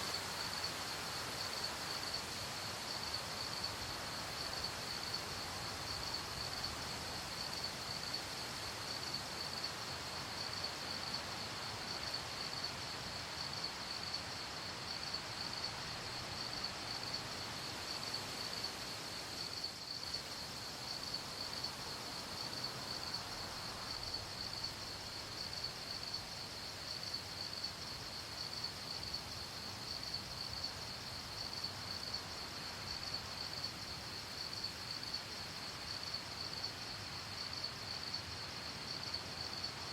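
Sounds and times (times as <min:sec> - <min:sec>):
crickets chirping: 0:00.0 - 0:39.9
soft background hiss: 0:00.0 - 0:39.9.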